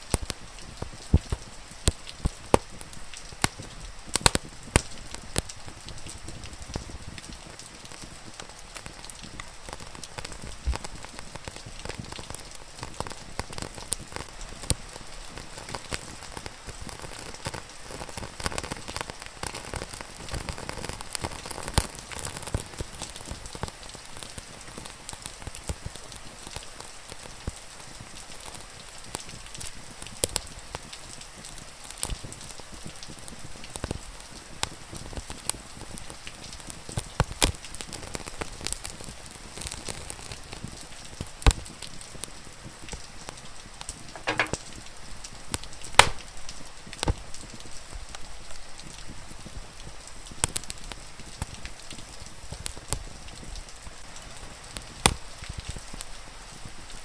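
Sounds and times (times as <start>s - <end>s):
rain pattering: 0.0s - 57.0s
wood fire crackling: 0.0s - 57.0s.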